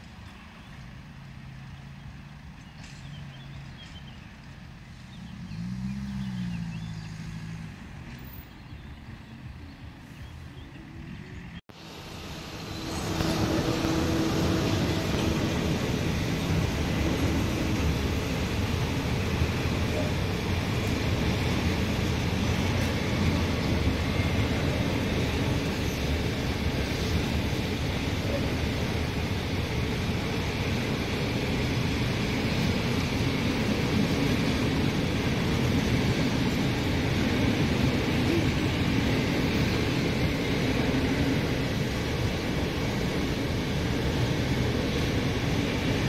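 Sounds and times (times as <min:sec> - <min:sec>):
freight train rolling: 0:00.0 - 0:46.0
road vehicle engine: 0:00.0 - 0:46.0
train wheels rumbling on rails: 0:00.0 - 0:46.0.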